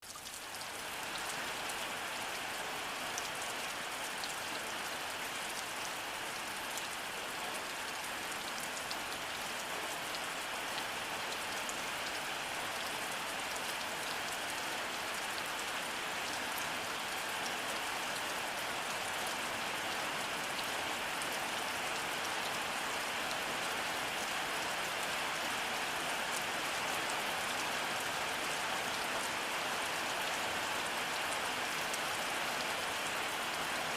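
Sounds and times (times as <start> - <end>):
heavy rainfall: 0.0 - 33.9.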